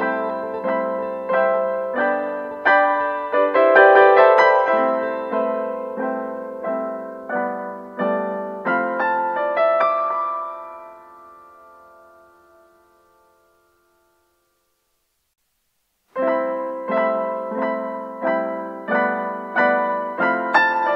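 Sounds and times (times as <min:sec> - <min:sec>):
piano chords: 0:00.0 - 0:14.6, 0:16.1 - 0:20.9.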